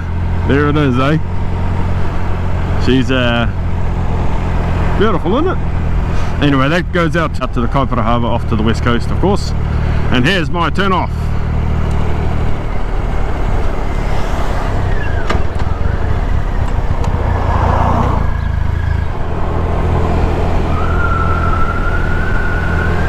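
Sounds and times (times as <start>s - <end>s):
motorcycle engine running: 0.0s - 17.6s, 18.2s - 21.4s
wind and road noise: 0.0s - 23.0s.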